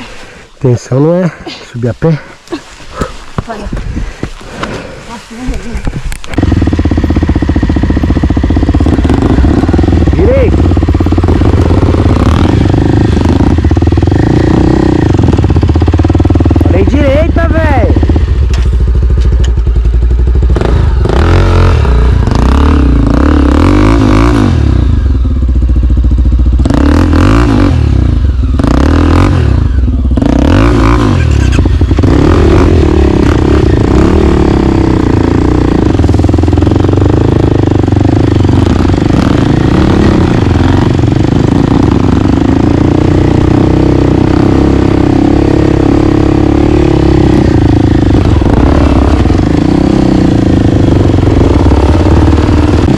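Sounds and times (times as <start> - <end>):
trail bike engine running: 0.0 - 52.9.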